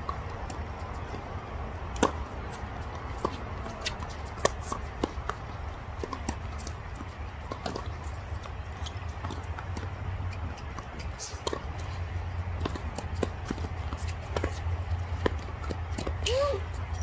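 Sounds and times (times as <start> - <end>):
tennis ball hits: 1.9 - 16.2.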